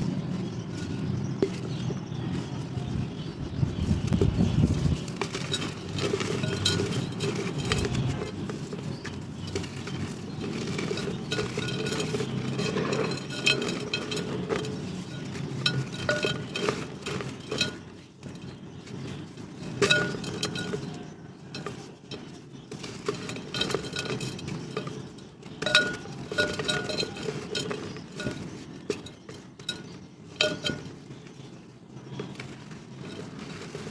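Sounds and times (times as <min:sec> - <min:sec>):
dried mud crunching and crackling: 0:00.0 - 0:33.9.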